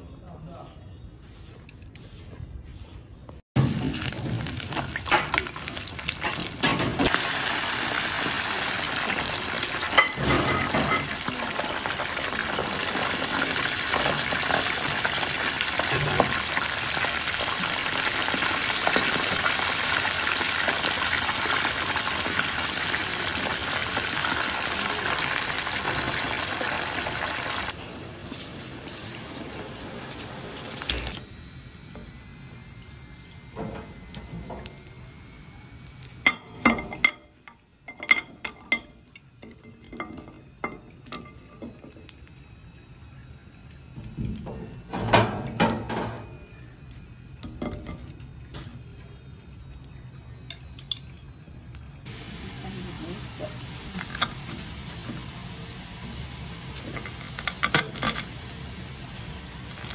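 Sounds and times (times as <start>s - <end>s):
deep-frying sizzle in hot oil: 3.6s - 51.0s, 51.8s - 59.9s.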